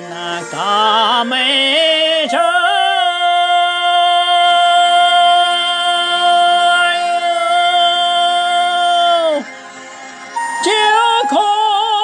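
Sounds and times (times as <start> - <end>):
man singing a long high note: 0.0 - 9.5, 10.4 - 12.0.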